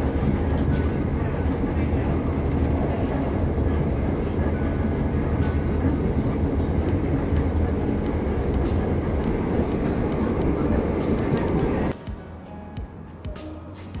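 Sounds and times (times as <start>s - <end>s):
train rumbling: 0.0s - 13.3s.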